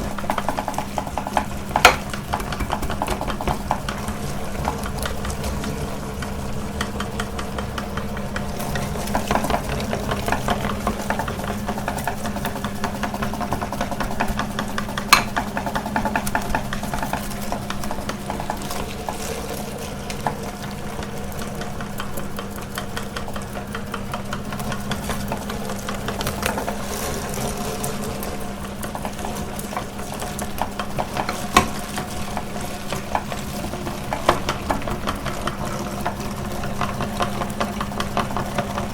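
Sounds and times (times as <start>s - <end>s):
electric meat grinder humming: 0.0s - 38.9s
small clicks and crackles: 0.0s - 38.9s.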